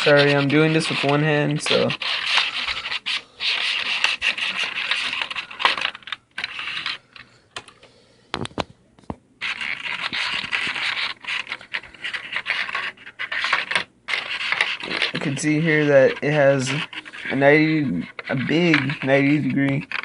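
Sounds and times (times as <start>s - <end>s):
packaging rustling and scraping: 0.0s - 7.3s, 9.4s - 20.0s.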